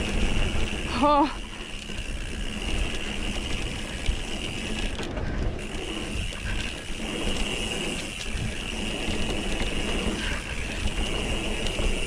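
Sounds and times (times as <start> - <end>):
bicycle freehub clicking buzz: 0.0 - 12.0
tyres rumbling on dirt trail: 0.0 - 12.0.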